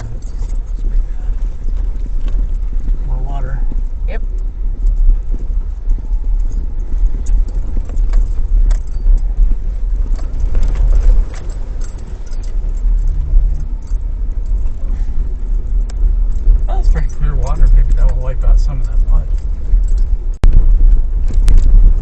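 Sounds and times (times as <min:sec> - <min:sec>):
vehicle engine rumble: 0:00.0 - 0:22.0
vehicle knocks and rattles: 0:00.0 - 0:22.0.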